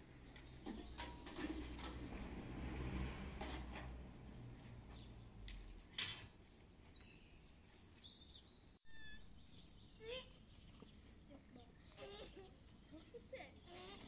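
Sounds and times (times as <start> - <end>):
small birds chirping: 0.0 - 2.4, 3.0 - 14.0.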